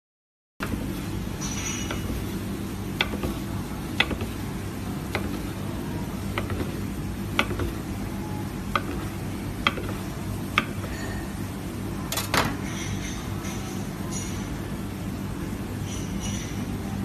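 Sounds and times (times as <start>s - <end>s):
steady low hum: 0.6s - 17.0s.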